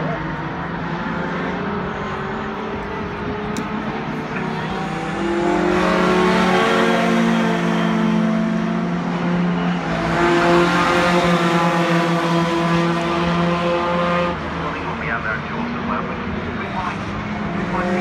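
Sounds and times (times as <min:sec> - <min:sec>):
racing trucks passing at speed: 0:00.0 - 0:18.0.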